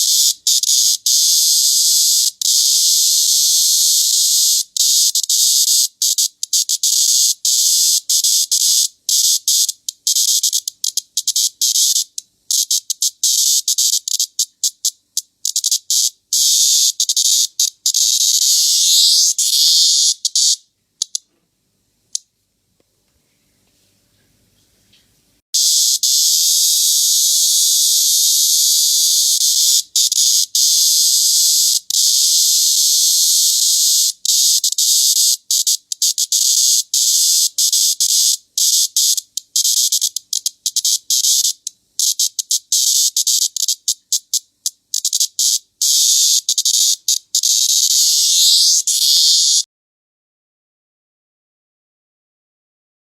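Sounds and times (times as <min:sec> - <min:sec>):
cicada buzzing: 0:00.0 - 0:21.3, 0:25.6 - 0:49.7.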